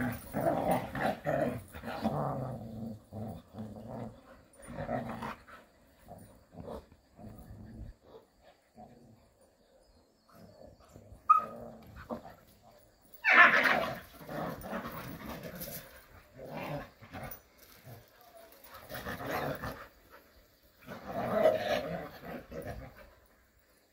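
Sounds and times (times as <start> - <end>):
dogs growling: 0.0 - 23.4.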